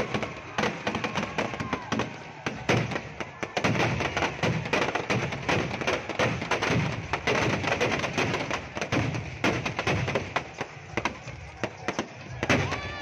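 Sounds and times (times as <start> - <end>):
firecrackers cracking: 0.0 - 13.0.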